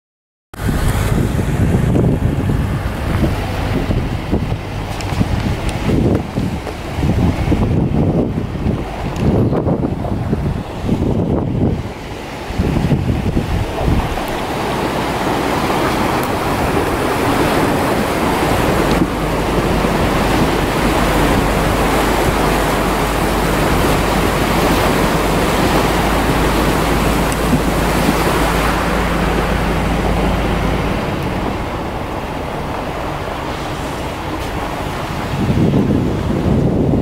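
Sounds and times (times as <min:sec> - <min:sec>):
vehicle engine drone: 0:00.6 - 0:37.0
water rushing and splashing: 0:00.6 - 0:37.0.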